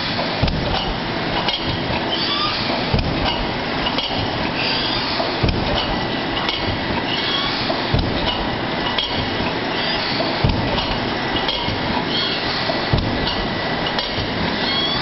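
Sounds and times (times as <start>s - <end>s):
thermoforming machine din: 0.0s - 15.0s
sharp machine knock: 0.3s - 1.9s, 2.7s - 14.4s.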